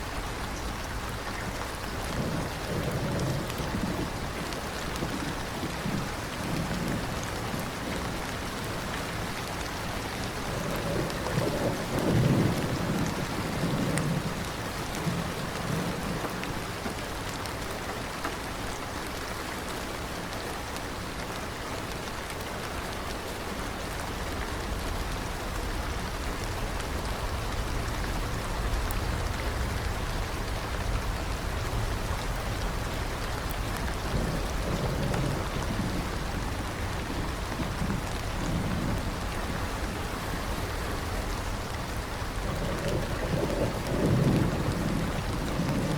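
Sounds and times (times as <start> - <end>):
thunder rumbling: 0.0 - 17.3, 24.0 - 45.9
steady rain falling: 0.0 - 45.9.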